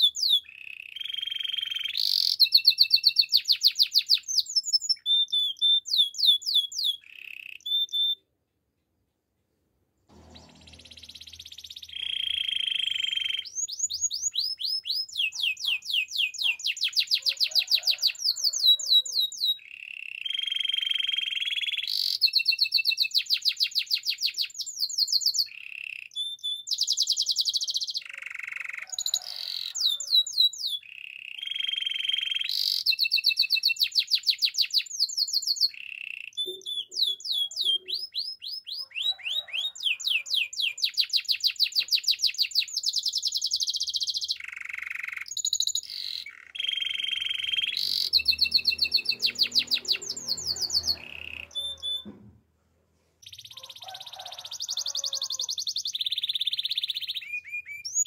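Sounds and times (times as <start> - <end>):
canary singing trills: 0.0 - 8.3, 10.1 - 52.2, 53.2 - 58.0.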